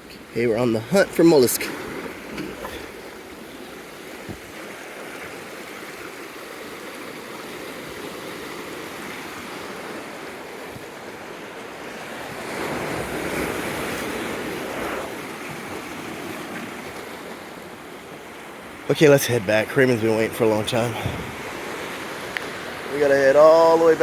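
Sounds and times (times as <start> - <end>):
ocean surf washing in: 0.0 - 24.0.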